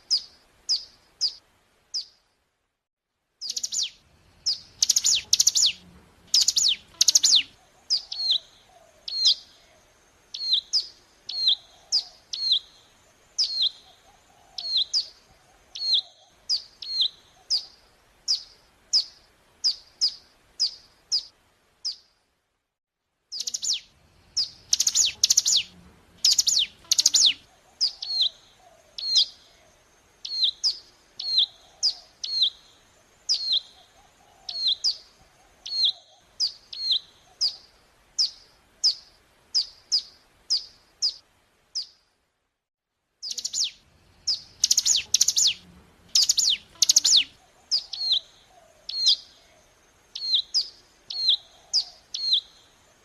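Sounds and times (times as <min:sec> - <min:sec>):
bird song with sharp chirps: 0:00.0 - 0:02.2, 0:03.4 - 0:22.1, 0:23.3 - 0:41.2, 0:41.8 - 0:42.0, 0:43.2 - 0:53.0.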